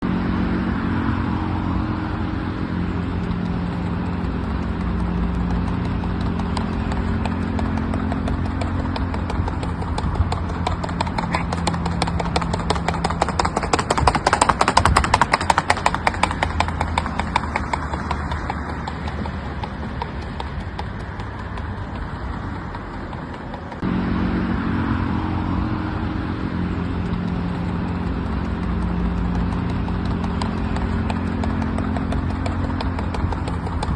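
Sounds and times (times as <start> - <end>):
steady low hum: 0.0 - 33.9
horse hoofbeats: 2.6 - 24.1, 26.2 - 33.9.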